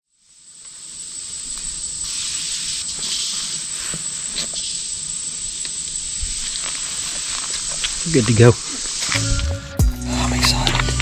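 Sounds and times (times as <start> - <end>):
shrill insect chorus: 0.1 - 9.4.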